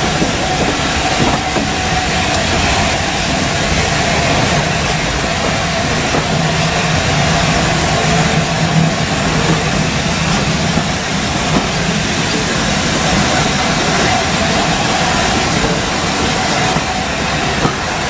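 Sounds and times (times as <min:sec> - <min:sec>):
train running gear rumble: 0:00.0 - 0:18.0.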